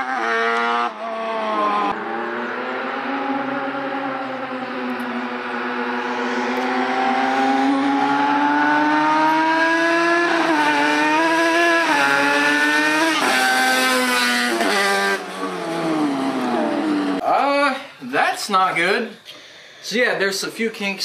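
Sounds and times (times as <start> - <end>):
two-stroke mower engine revving: 0.0 - 17.2.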